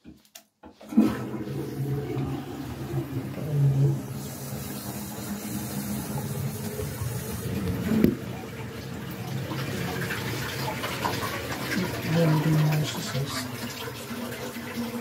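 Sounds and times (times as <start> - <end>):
toilet flushing: 0.6 - 15.0.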